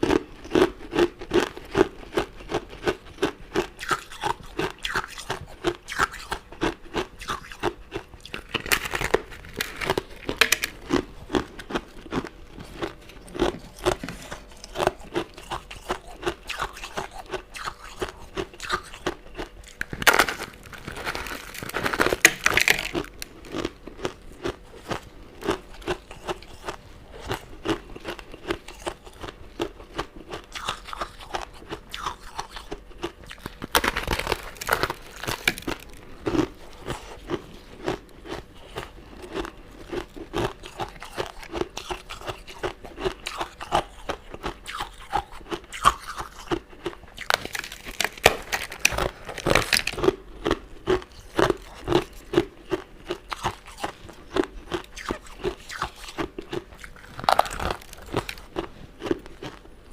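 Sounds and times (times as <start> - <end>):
crunching and chewing candy: 0.0 - 59.9.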